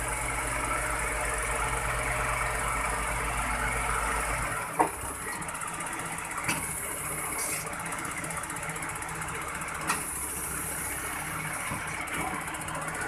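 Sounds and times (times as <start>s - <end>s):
truck diesel engine and hydraulics: 0.0s - 13.0s.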